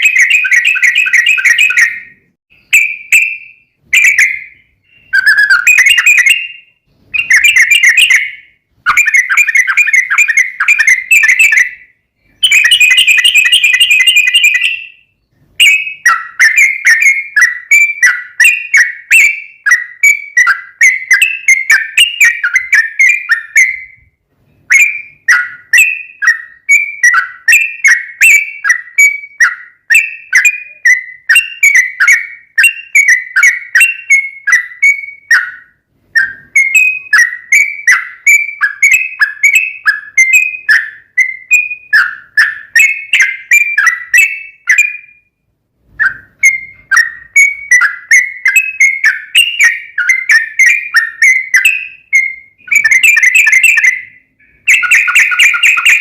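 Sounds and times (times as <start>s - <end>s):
bird chattering song: 0.0s - 45.3s, 46.0s - 56.0s.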